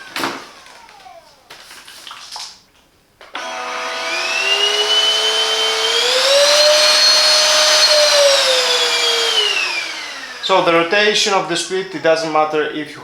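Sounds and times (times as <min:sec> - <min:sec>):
handheld vacuum motor whine: 0:00.0 - 0:02.0, 0:03.2 - 0:12.4.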